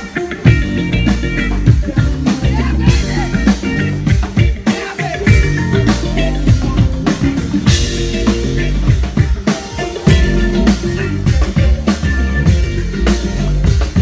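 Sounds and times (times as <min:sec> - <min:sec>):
live band playing loud music: 0:00.0 - 0:14.0.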